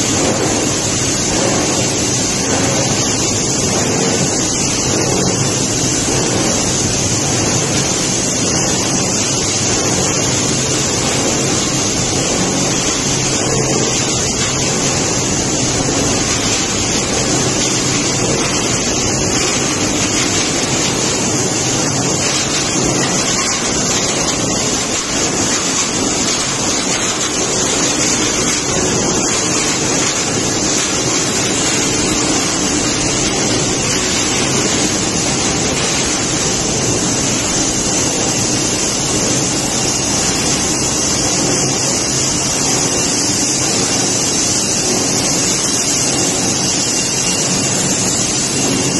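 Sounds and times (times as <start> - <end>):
low machinery hum: 0.0 - 48.9
machinery hiss: 0.0 - 48.9
recycling machinery din: 0.0 - 48.9.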